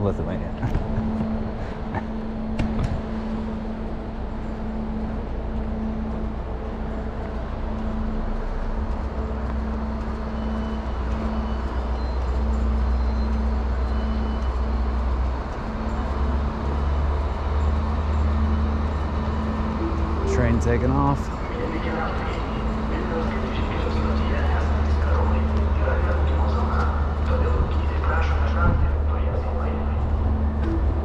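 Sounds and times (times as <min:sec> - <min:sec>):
low train rumble: 0:00.0 - 0:31.0
train hum: 0:00.0 - 0:31.0.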